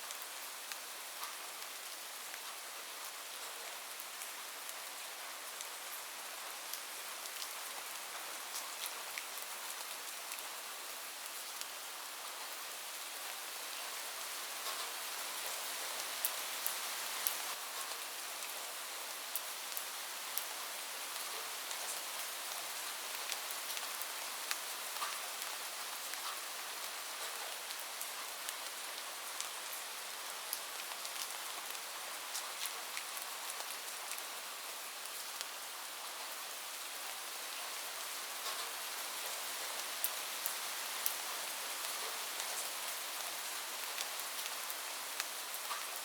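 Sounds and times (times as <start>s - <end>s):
rain on a roof: 0.0s - 46.0s.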